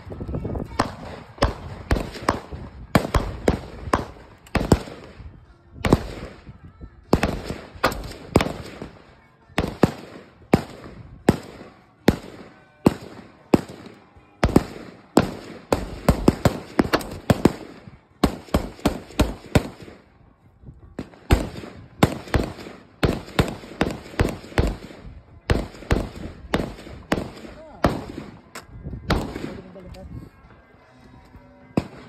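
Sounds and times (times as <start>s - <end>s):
gunshots: 0.7s - 6.5s, 7.1s - 20.1s, 21.0s - 28.4s, 29.1s - 29.8s, 31.8s - 32.0s.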